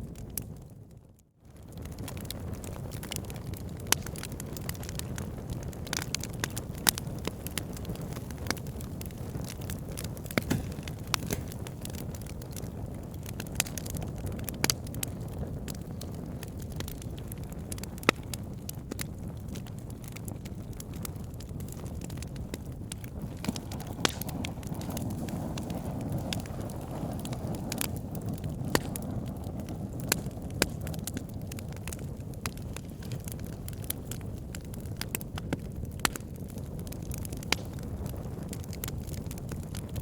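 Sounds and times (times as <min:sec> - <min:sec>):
burning logs crackling and popping: 0:00.0 - 0:40.0
low rumble of flames: 0:00.0 - 0:40.0.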